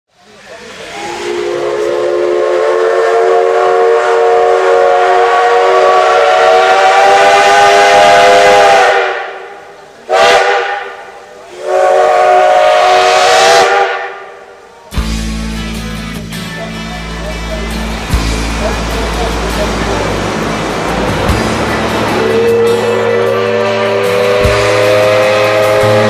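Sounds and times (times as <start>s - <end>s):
steam hissing: 0.2s - 26.0s
steam whistle blasts: 0.7s - 14.6s, 18.1s - 26.0s.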